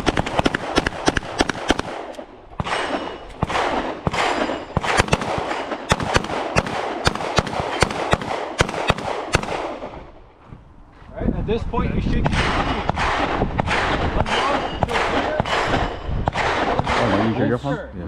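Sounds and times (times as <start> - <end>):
handguns firing: 0.0 - 10.0, 12.3 - 17.3.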